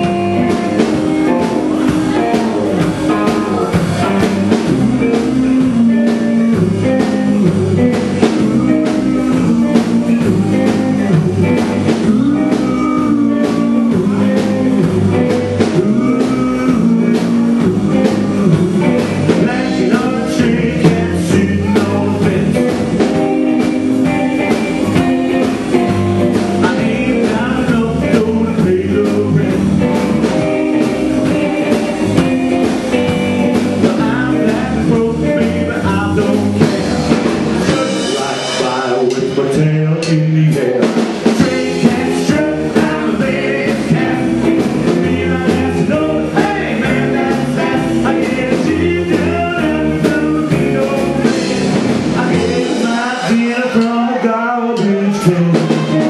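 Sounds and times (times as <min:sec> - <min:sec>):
person singing: 0:00.0 - 0:56.0
rockabilly band playing live: 0:00.0 - 0:56.0.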